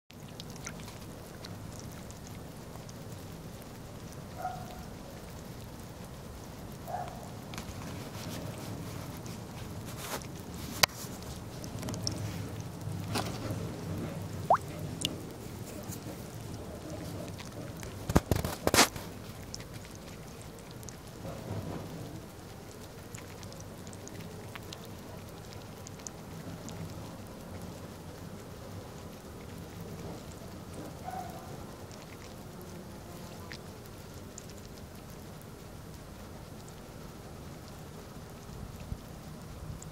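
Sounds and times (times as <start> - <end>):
drips splashing on pond: 0.1 - 21.4, 22.2 - 39.9
water pattering: 0.1 - 36.8
low outdoor hum: 0.1 - 39.9.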